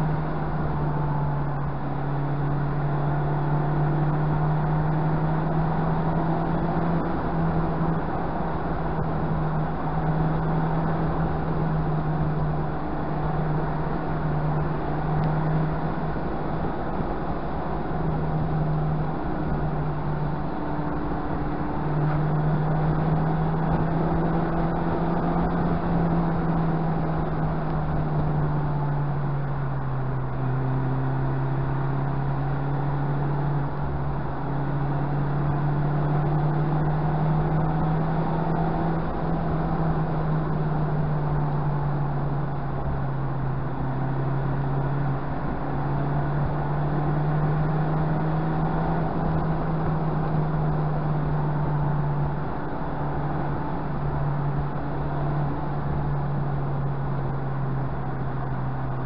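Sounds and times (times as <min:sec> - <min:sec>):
car engine pulling at varying revs: 0:00.0 - 0:59.0
tyre and road noise: 0:00.0 - 0:59.0.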